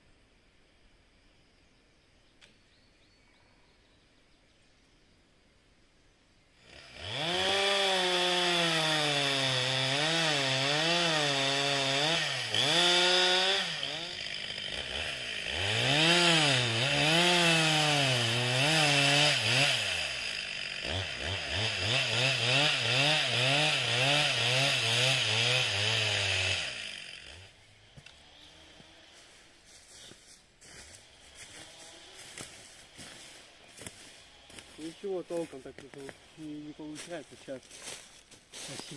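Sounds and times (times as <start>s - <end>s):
chainsaw cutting tree trunk: 6.6s - 38.9s.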